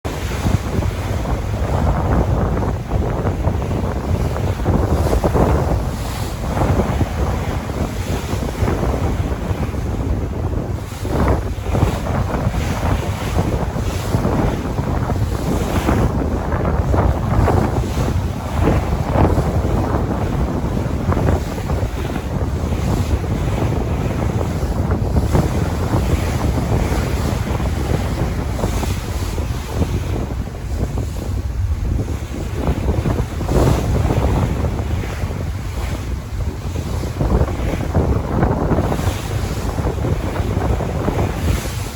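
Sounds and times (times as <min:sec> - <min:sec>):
sea waves washing in: 0:00.0 - 0:41.9
wind rumbling on microphone: 0:00.0 - 0:41.9.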